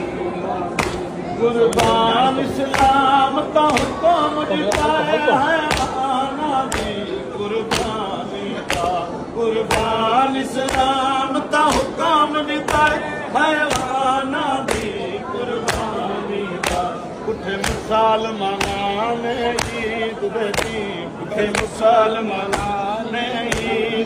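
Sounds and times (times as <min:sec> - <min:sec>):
men singing: 0:00.0 - 0:24.0.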